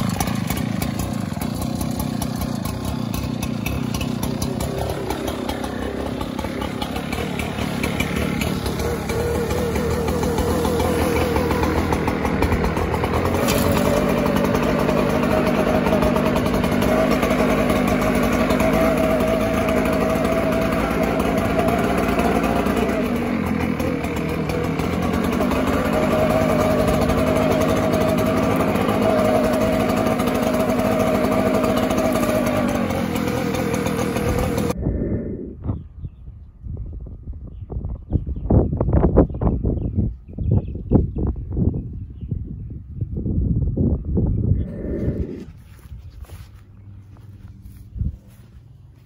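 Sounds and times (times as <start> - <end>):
leaf blower engine: 0.0 - 35.5, 44.5 - 49.0.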